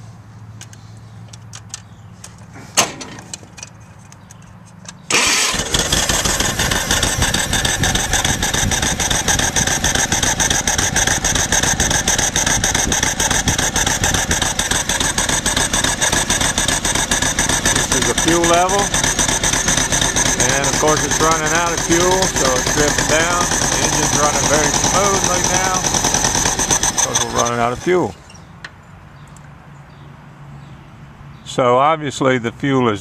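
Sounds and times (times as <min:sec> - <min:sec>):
tractor engine running: 0:00.5 - 0:28.8.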